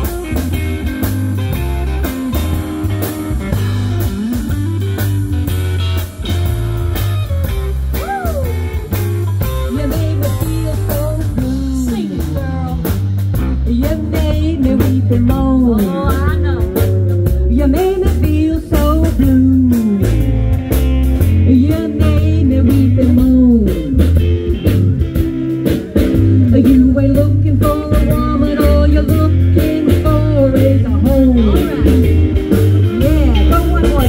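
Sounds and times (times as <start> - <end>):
blues rock and roll music: 0.0 - 34.0.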